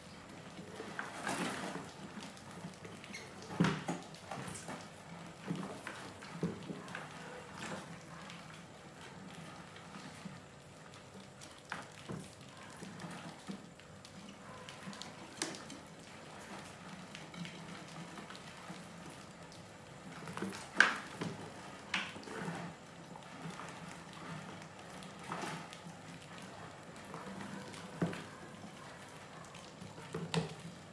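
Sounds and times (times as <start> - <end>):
mice scurrying and scratching: 0.0 - 30.9.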